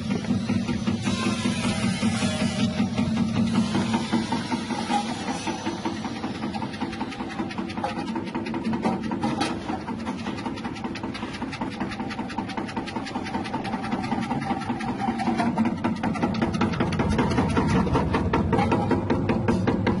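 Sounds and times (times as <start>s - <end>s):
rapid ticking of slicing machine: 0.1s - 20.0s.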